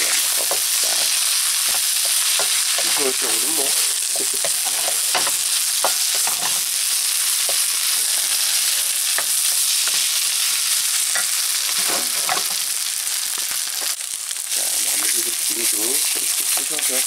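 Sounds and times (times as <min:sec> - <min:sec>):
rice sizzling in a frying pan: 0:00.0 - 0:17.0.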